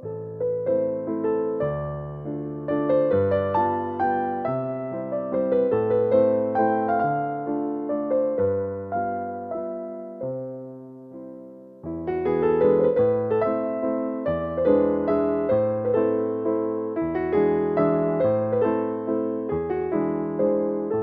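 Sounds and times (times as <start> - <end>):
electric piano melody with bass: 0.0 - 21.0.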